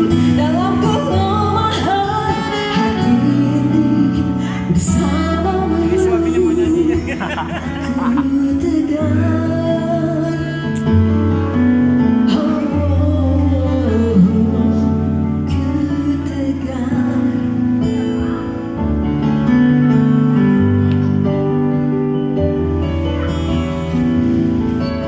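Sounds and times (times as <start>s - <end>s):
guitar-led pop instrumental: 0.0s - 25.0s.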